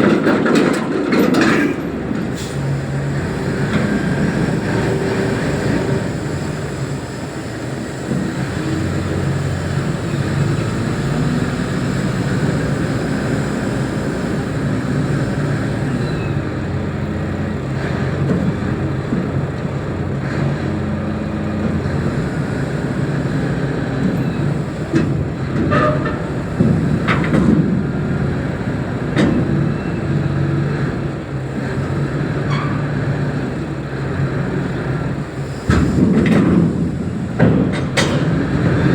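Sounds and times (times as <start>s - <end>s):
heavy vehicle engine running: 0.0s - 38.9s.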